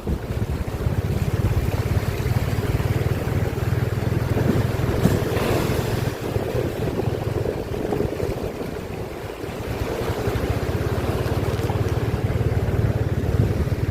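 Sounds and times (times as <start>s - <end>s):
wind and floodwater rushing: 0.0s - 13.9s
wind buffeting microphone: 0.0s - 13.9s.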